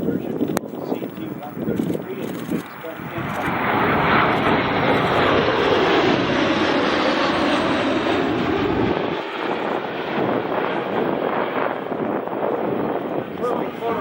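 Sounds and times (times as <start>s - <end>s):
jet aircraft roar: 0.0s - 14.0s.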